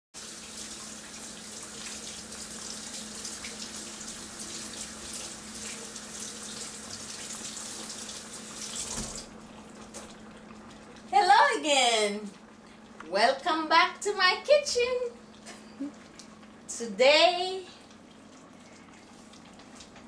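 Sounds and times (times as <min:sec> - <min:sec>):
water running from tap: 0:00.2 - 0:12.7, 0:14.8 - 0:20.0
faint steady hum: 0:00.2 - 0:20.0.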